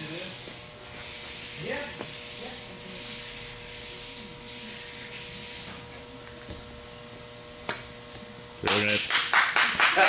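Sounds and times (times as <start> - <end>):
faint constant hum: 0.0 - 10.0.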